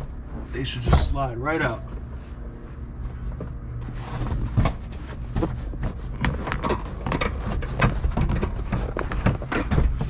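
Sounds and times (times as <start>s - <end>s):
seat scraping: 0.0s - 10.0s
knocks and clunks of car seat: 0.6s - 2.2s, 3.1s - 10.0s.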